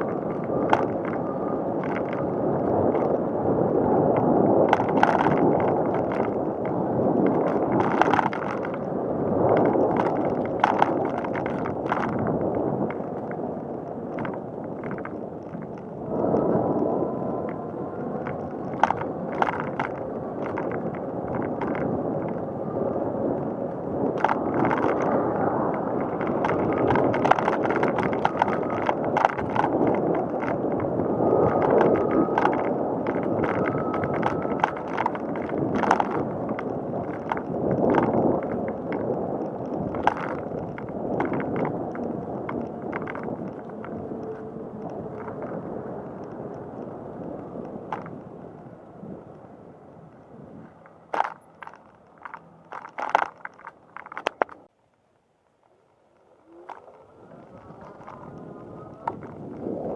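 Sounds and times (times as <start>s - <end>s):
bicycle tyre road noise: 0.0s - 59.9s
bike clicks and rattles over bumps: 0.0s - 59.9s.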